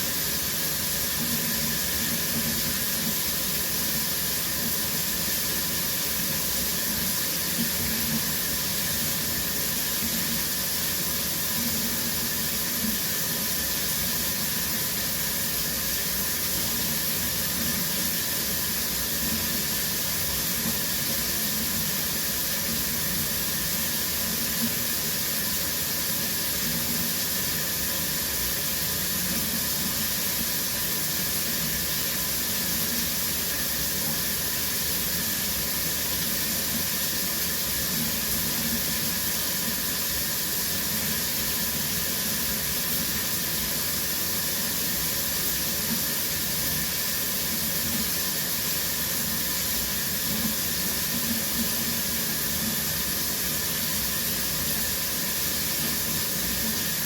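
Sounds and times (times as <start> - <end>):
shower spray hissing: 0.0 - 57.0.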